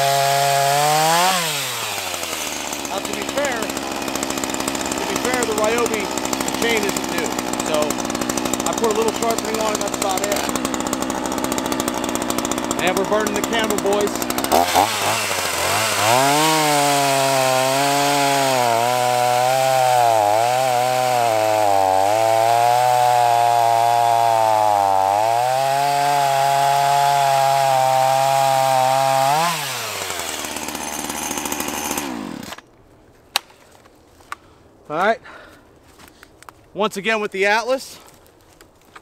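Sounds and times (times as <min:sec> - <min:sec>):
chainsaw cutting through log: 0:00.0 - 0:32.7.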